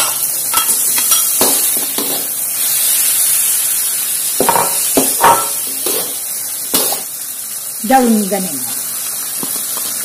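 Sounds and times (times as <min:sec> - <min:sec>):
chicken sizzling in a wok: 0:00.0 - 0:10.0.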